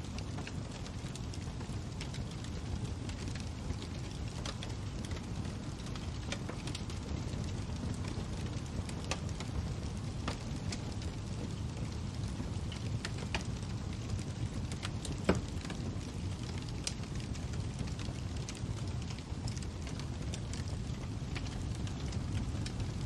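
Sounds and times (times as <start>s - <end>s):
fire popping: 0.0s - 23.0s
fire rumbling: 0.0s - 23.0s.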